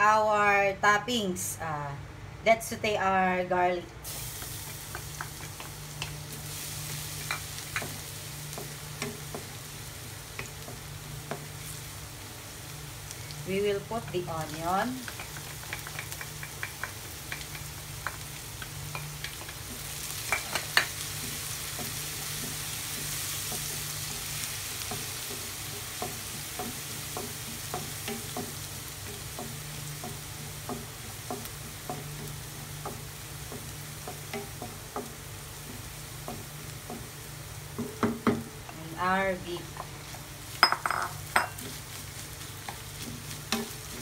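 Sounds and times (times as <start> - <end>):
onion sizzling in frying pan: 4.0 - 44.0.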